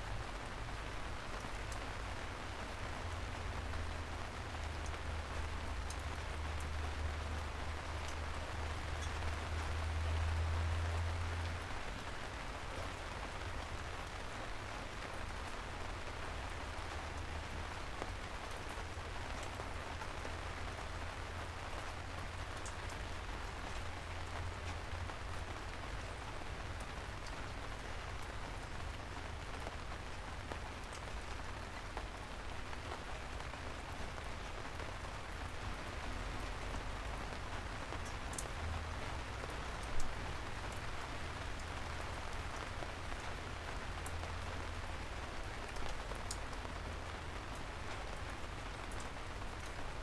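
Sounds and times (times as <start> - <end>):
rain falling on a surface: 0.0 - 50.0.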